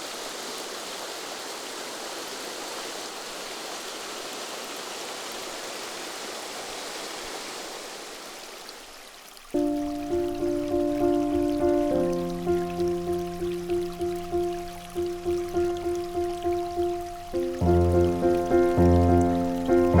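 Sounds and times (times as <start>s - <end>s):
small waterfall and stream rushing: 0.0s - 20.0s.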